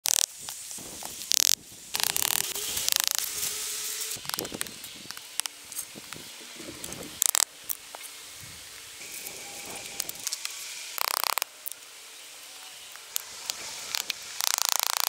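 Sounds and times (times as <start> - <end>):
sticks and brush rustling: 0.3 - 12.0, 12.9 - 15.0.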